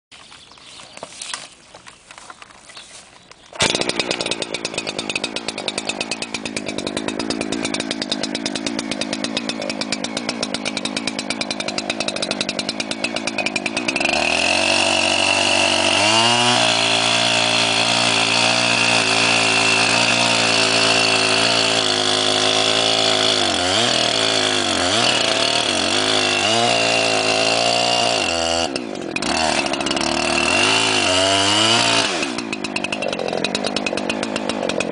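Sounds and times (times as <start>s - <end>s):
chainsaw engine running: 3.5s - 34.9s.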